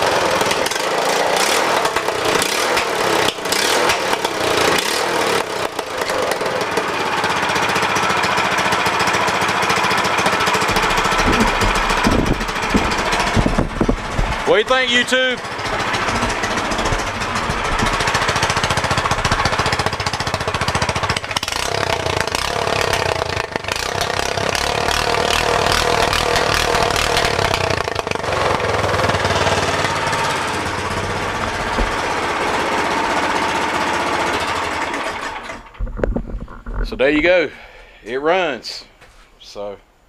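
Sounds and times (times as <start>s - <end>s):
mini bike engine running: 0.0s - 36.8s.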